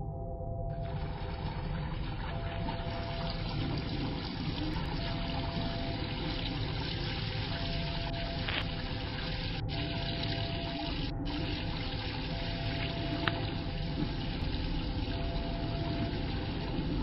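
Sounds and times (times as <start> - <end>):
faint held tone: 0.0 - 17.0
rushing trickling water: 0.8 - 17.0.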